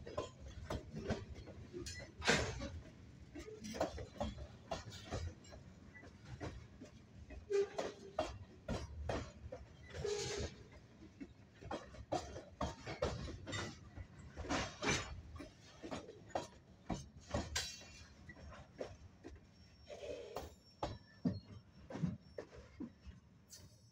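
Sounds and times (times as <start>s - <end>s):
train wheels clanking: 0.0s - 22.6s
train rumbling: 0.0s - 23.9s.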